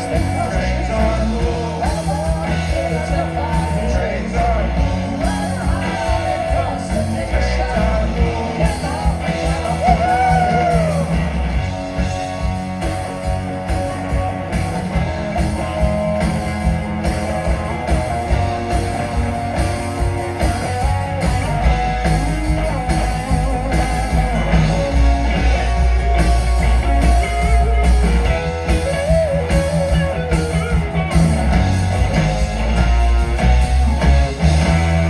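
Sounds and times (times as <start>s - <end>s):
electric guitar: 0.0s - 35.0s
rock band playing live: 0.0s - 35.0s.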